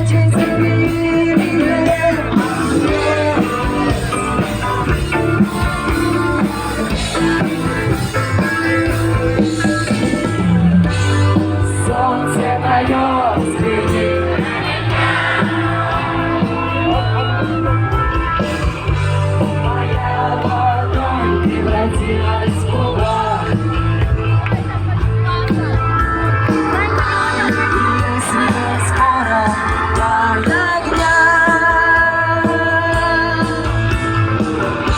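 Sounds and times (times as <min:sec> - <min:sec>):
person singing: 0:00.0 - 0:09.0, 0:10.2 - 0:24.4, 0:26.2 - 0:34.9
live rock band playing: 0:00.0 - 0:34.9.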